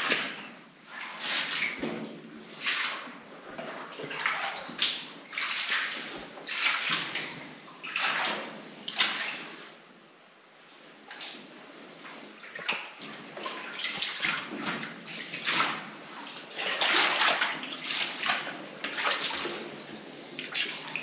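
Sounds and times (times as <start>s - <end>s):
footsteps wading through water: 0.0s - 9.8s, 10.8s - 21.0s.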